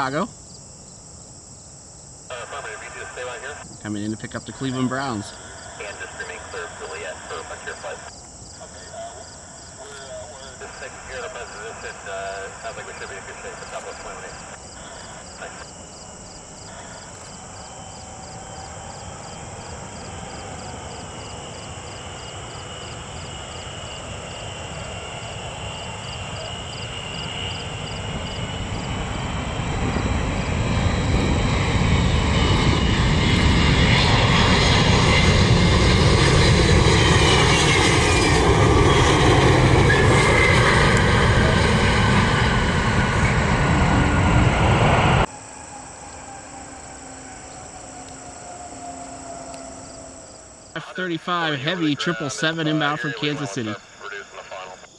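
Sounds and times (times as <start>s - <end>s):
jet engines whining: 2.2s - 54.9s.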